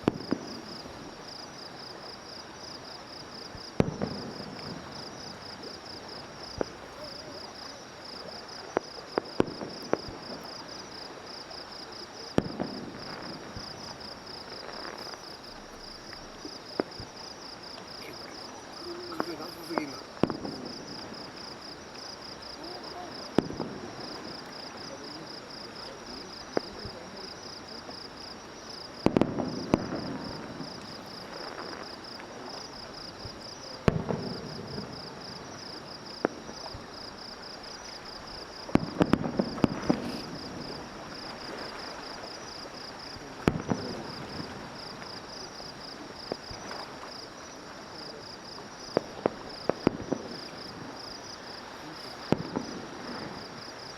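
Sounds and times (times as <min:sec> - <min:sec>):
fireworks bursting: 0:00.0 - 0:53.9
insect chirping: 0:00.0 - 0:53.9.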